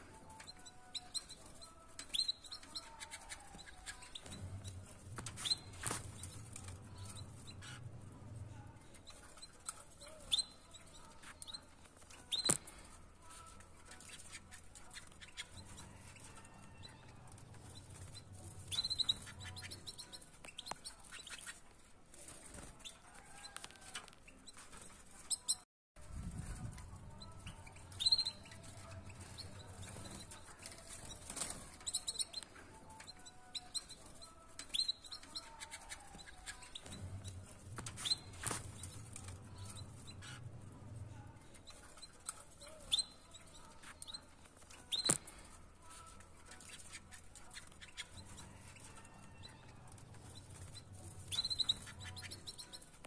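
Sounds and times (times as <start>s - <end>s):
canaries chirping: 0.0s - 53.0s
birds clicking on wire mesh: 0.2s - 7.8s, 8.9s - 25.6s, 26.4s - 40.6s, 41.4s - 53.0s.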